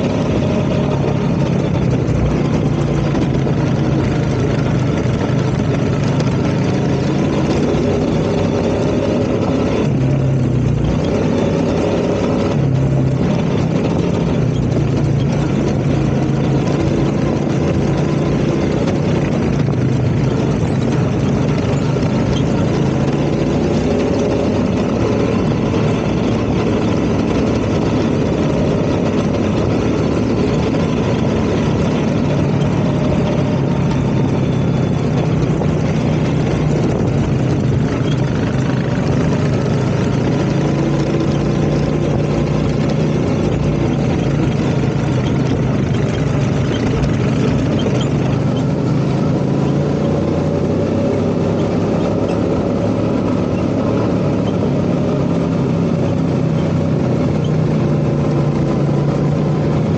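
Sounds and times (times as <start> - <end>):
atv engine running: 0.0 - 59.9
constant rushing noise: 0.0 - 59.9.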